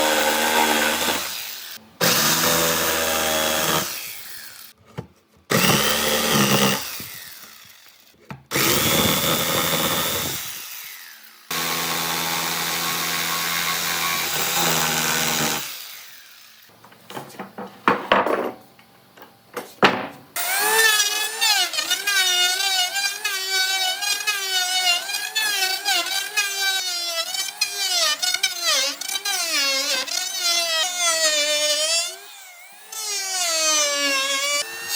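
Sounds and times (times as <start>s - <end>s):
power tool working wood: 0.0s - 4.8s, 5.5s - 16.7s, 20.4s - 34.9s.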